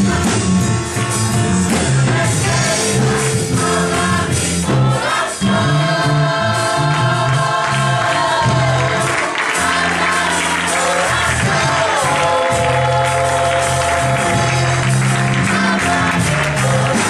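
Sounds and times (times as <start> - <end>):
choir singing gospel song: 0.0 - 17.0
instrumental backing: 0.0 - 17.0.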